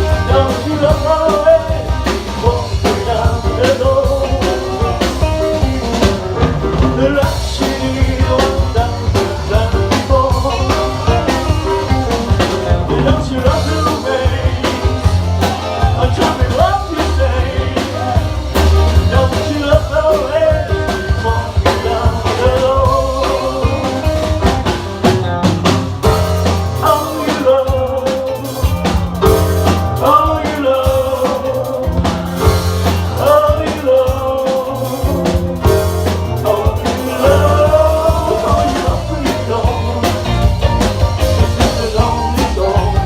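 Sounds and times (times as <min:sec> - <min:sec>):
bass line: 0:00.0 - 0:43.0
drum kit with cymbals: 0:00.0 - 0:43.0
sliding melodic line: 0:00.0 - 0:43.0.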